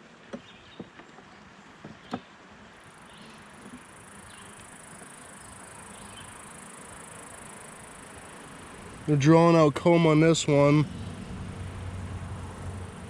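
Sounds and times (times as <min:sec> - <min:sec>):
insects chirring: 0:02.1 - 0:13.0.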